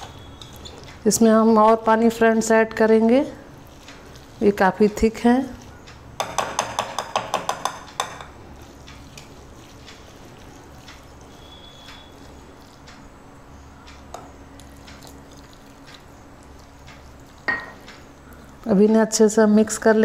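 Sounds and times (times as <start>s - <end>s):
whisk squishing batter: 0.0s - 13.2s, 13.9s - 20.0s
low steady hum: 0.0s - 20.0s.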